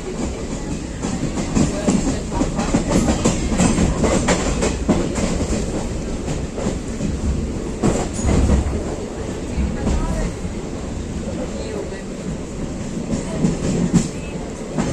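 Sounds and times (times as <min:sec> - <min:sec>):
train coach rumble: 0:00.0 - 0:14.9.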